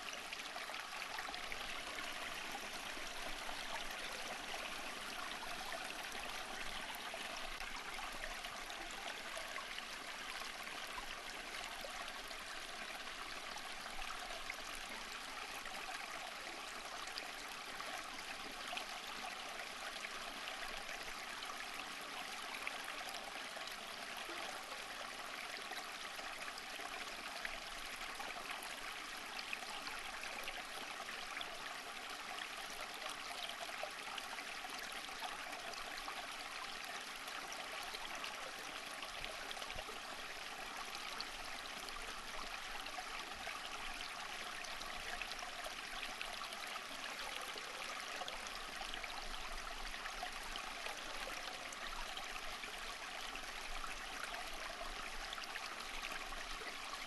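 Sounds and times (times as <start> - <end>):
stream water over rocks: 0.0 - 57.0.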